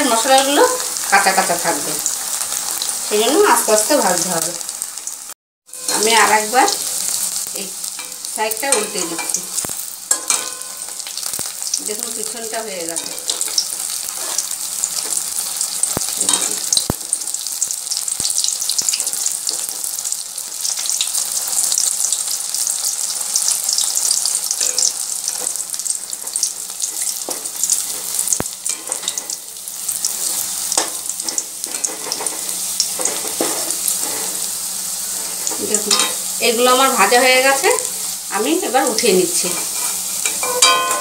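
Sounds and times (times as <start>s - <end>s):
food sizzling in oil: 0.0s - 41.0s.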